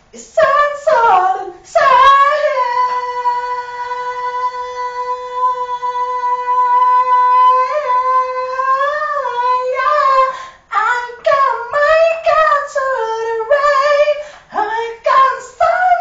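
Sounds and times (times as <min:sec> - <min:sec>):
person singing a long high note: 0:00.2 - 0:16.0.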